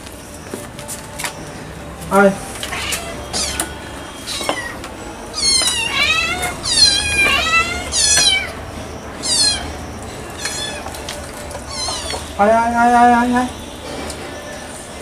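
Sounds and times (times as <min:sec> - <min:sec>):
cats meowing: 0:01.3 - 0:13.6.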